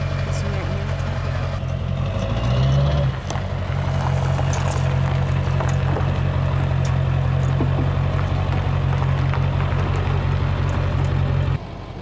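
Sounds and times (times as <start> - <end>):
truck engine idling: 0.0 - 2.1, 3.2 - 12.0.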